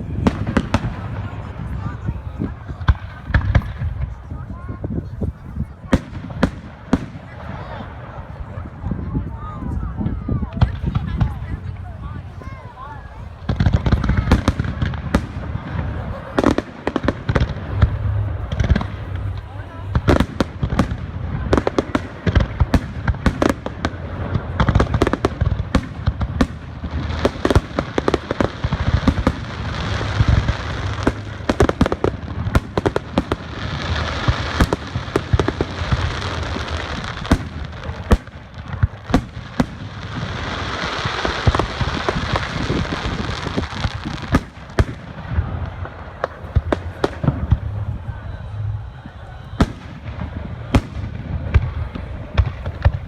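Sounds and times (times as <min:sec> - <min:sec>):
hissing crackle of fireworks: 0:00.0 - 0:53.0.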